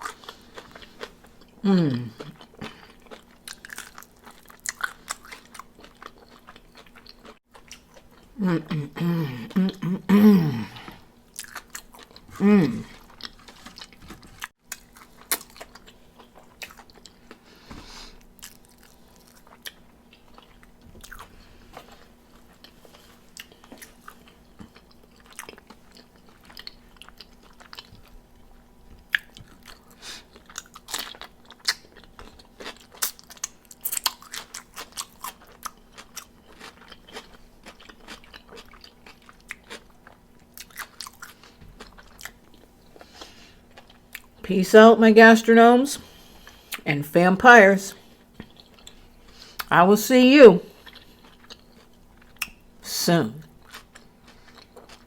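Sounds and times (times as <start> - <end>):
crunchy chewing: 0.0 - 8.4, 10.8 - 44.4, 48.0 - 49.7, 50.7 - 52.7, 53.5 - 55.0.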